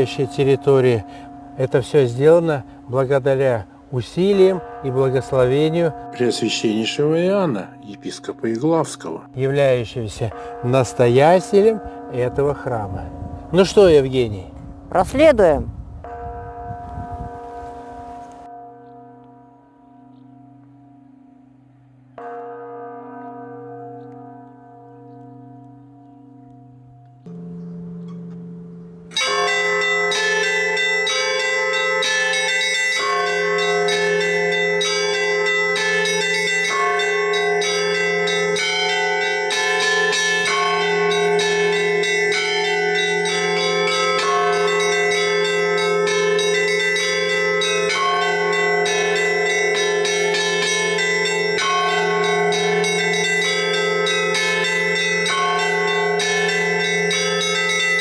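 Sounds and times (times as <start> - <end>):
large church bells ringing: 0.0 - 21.2, 22.2 - 58.0
small church bells chiming: 0.0 - 21.4, 22.2 - 58.0.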